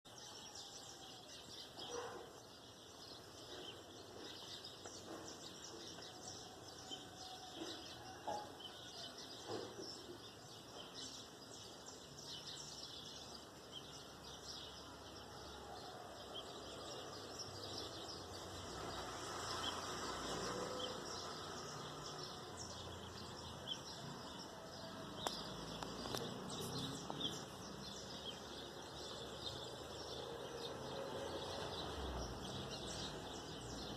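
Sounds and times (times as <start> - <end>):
faint outdoor background noise: 0.0 - 33.9
birds chirping and calling: 0.1 - 33.9.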